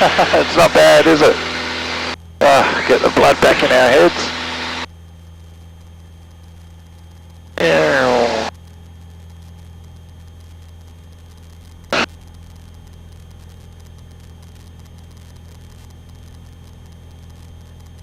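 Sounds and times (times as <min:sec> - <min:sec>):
aircraft drone and static: 0:00.0 - 0:18.0.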